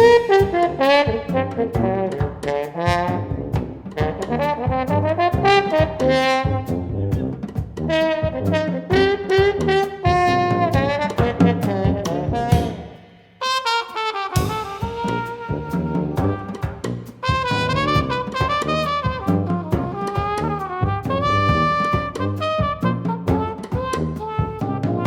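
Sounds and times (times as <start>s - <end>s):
drum kit: 0.0s - 25.0s
trombone: 0.0s - 25.0s
trumpet: 0.0s - 25.0s.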